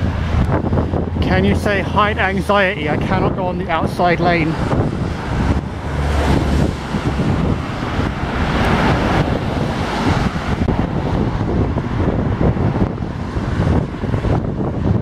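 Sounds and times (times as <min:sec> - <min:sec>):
road traffic: 0:00.0 - 0:15.0
wind rushing over microphone: 0:00.0 - 0:15.0.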